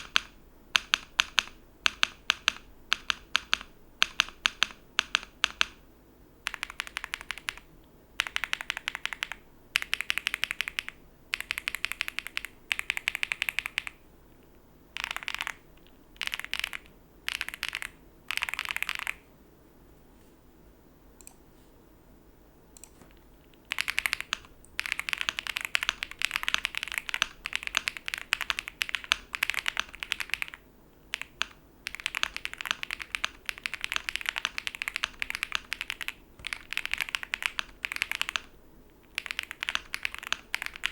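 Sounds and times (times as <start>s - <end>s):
mechanical keyboard typing: 0.0s - 5.8s, 6.4s - 14.0s, 15.0s - 19.2s, 22.8s - 40.9s.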